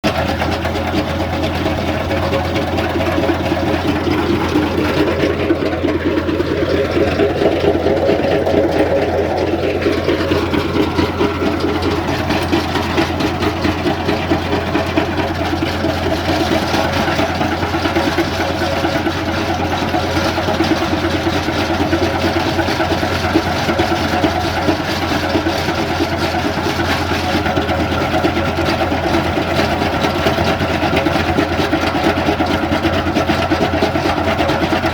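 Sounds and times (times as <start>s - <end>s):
tractor engine humming: 0.0s - 34.9s.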